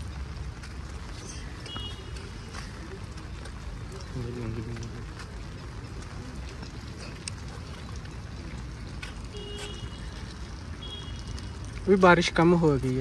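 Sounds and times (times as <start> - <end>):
steady rain: 0.0 - 13.0
water drips tapping: 0.0 - 13.0.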